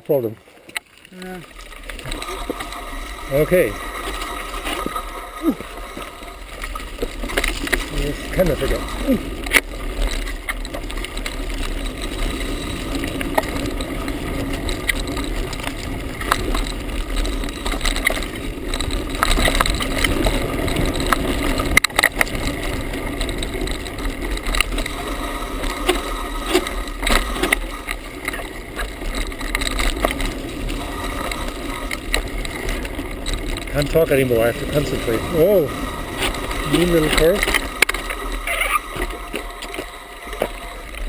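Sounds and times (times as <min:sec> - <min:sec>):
bike rattling over bumps: 0:00.0 - 0:41.0
rush of bike tyres and air: 0:01.8 - 0:41.0.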